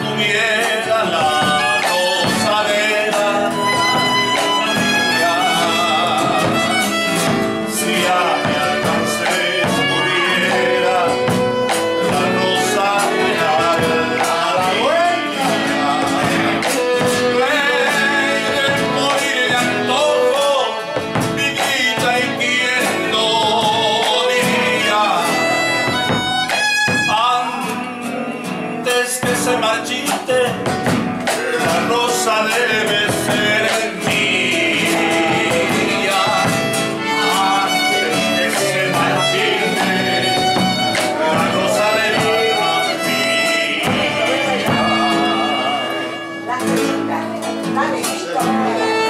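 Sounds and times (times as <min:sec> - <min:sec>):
violin melody: 0:00.0 - 0:27.6, 0:31.9 - 0:49.0
nylon-string guitars strumming: 0:00.0 - 0:49.0.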